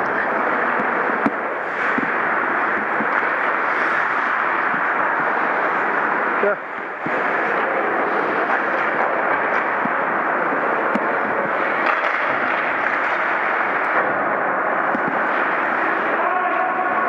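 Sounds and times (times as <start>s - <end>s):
ice rink rushing noise: 0.0s - 17.0s.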